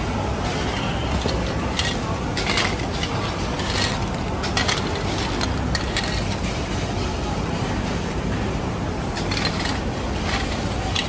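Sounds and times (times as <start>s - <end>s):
hum of market activity: 0.0s - 11.0s.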